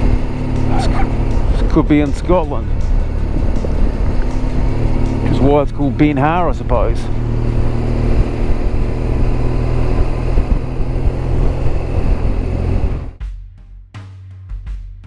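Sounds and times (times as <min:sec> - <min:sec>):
wind and road noise: 0:00.0 - 0:13.2
motorcycle engine running: 0:00.0 - 0:13.3.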